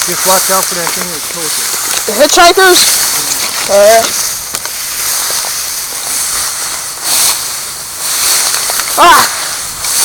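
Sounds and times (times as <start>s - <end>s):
dry brush rustling and crackling: 0.0s - 10.0s.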